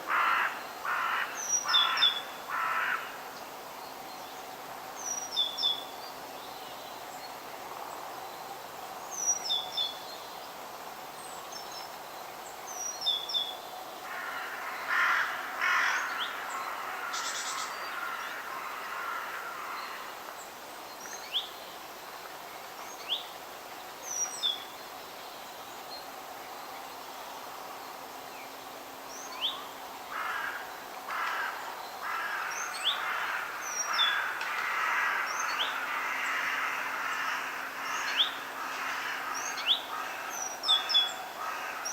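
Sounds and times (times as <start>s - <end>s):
steady outdoor hiss: 0.0s - 41.9s.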